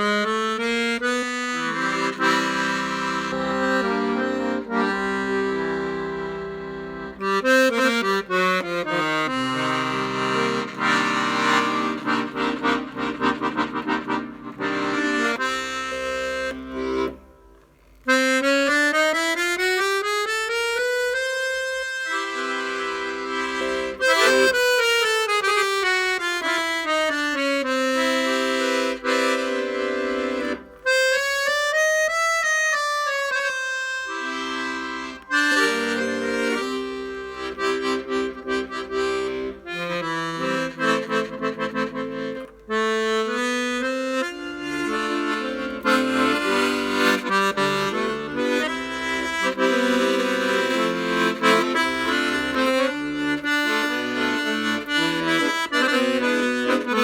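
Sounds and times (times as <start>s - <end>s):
piano accordion playing: 0.0s - 57.0s.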